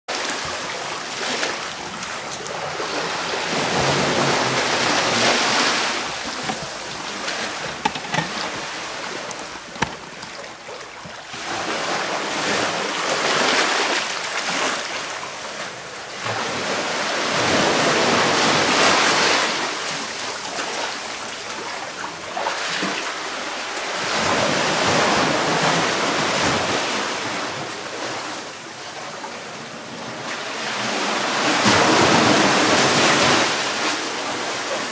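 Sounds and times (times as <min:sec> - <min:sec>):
sea surf washing over sand: 0:00.1 - 0:34.9.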